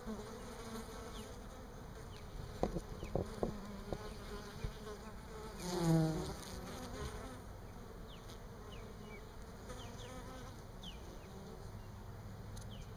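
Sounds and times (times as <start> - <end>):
honey bees buzzing: 0.0 - 11.9.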